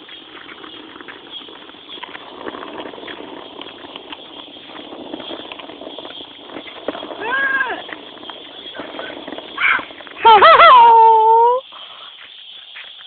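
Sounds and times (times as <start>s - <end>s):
bicycle tyres crunching on gravel: 0.0s - 13.0s.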